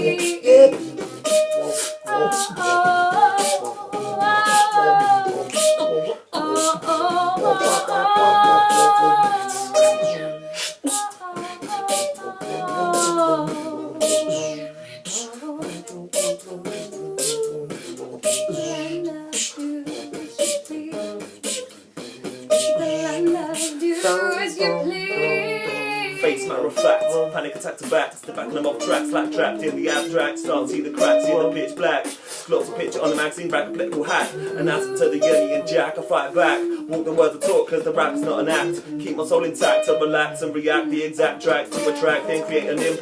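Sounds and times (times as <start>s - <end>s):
beatboxed rhythm: 0.0s - 43.0s
person singing wordless melody: 0.0s - 43.0s.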